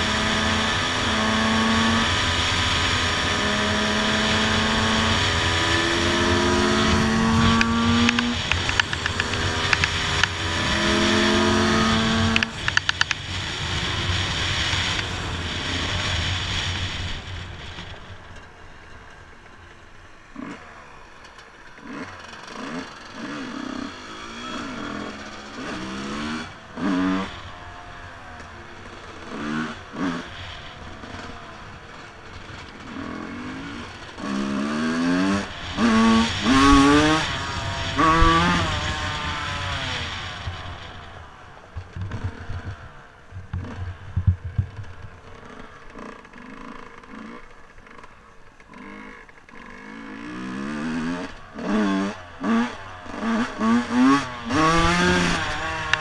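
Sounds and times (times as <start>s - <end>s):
motocross bike accelerating: 0.0s - 56.0s.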